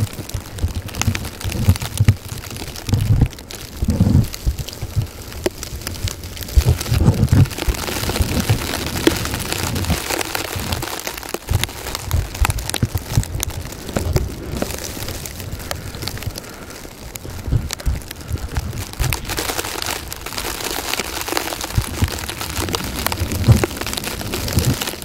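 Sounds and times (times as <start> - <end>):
wind gusting on microphone: 0.0 - 25.0
blizzard hiss: 2.8 - 25.0.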